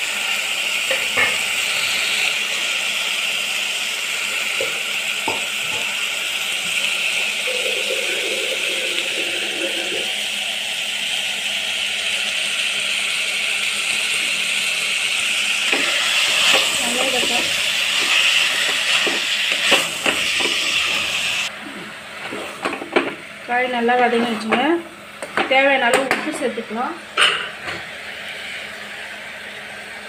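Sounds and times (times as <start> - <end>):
vegetables sauteing hiss: 0.0 - 27.1.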